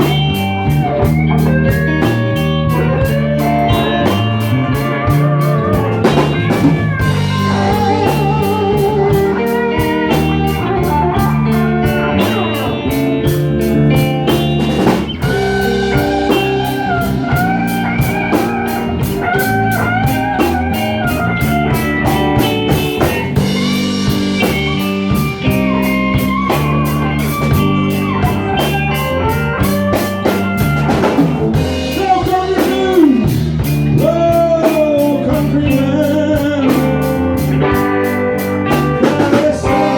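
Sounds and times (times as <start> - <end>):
bass notes: 0.0 - 39.9
drum kit steady beat: 0.0 - 39.9
lead guitar with bent notes: 0.0 - 39.9.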